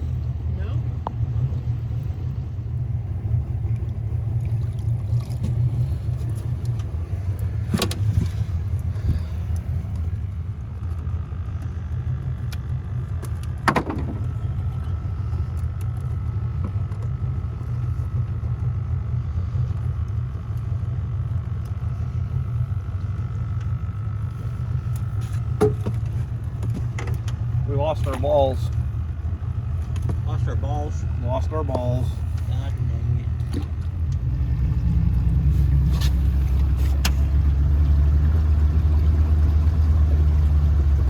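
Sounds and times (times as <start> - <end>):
boat motor rumbling: 0.0 - 41.0.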